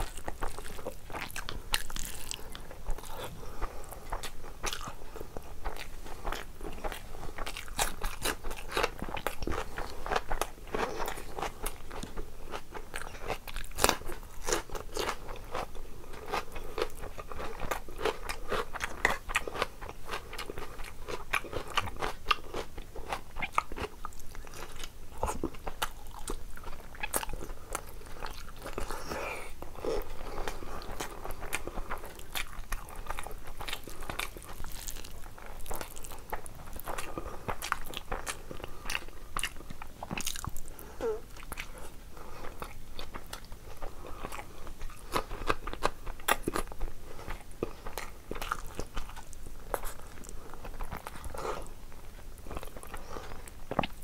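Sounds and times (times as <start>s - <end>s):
wet chewing and lip smacking: 0.0s - 54.0s.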